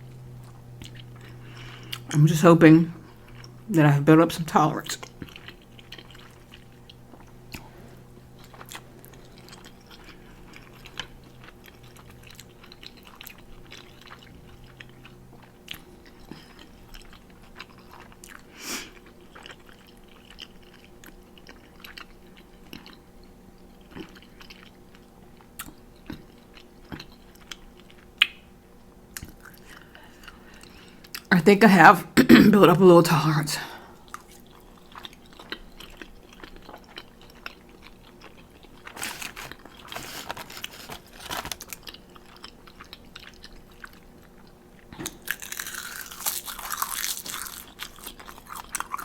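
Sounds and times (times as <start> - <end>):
faint steady hum: 0.0 - 49.0
person chewing noodles: 0.1 - 2.2, 3.0 - 3.7, 5.0 - 28.3, 29.1 - 31.3, 34.0 - 49.0.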